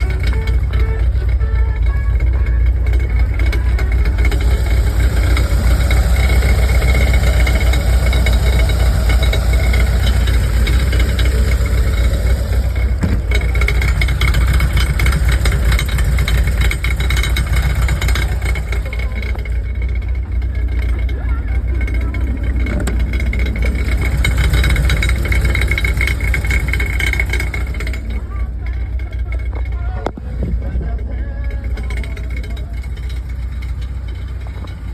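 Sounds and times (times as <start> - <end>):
fast exhaust rattle: 0.0 - 34.9
vehicle engine droning: 0.0 - 34.9.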